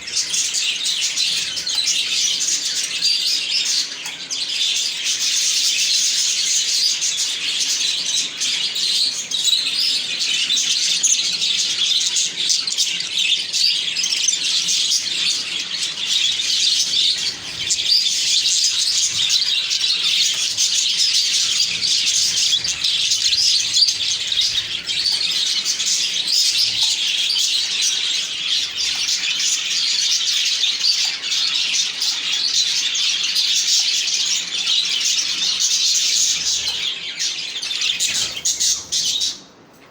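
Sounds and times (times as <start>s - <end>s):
budgerigars chattering and chirping: 0.0s - 39.5s.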